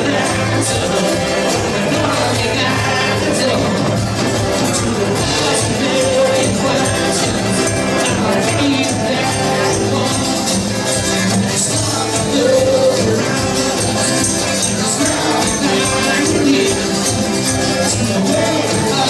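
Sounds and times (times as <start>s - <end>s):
live rock band playing: 0.0s - 19.0s
strummed acoustic guitar: 0.0s - 19.0s.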